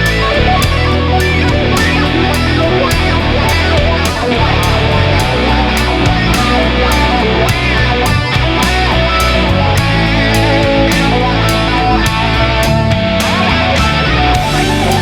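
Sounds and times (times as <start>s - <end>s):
distorted electric guitar: 0.0s - 15.0s
steady drum beat: 0.0s - 15.0s.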